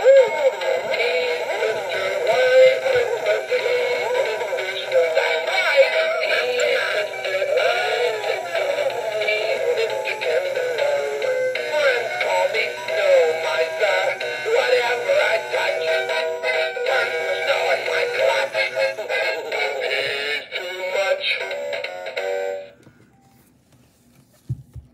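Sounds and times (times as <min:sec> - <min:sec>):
tinny male singing over backing track: 0:00.0 - 0:22.3.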